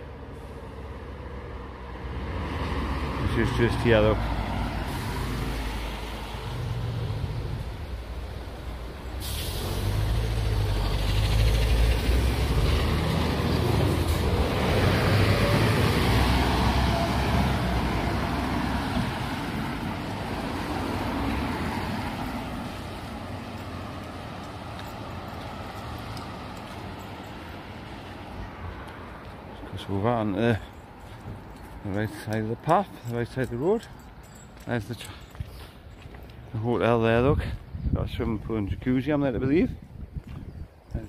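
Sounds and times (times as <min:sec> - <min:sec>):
lorry passing on wet road: 0:00.0 - 0:36.9.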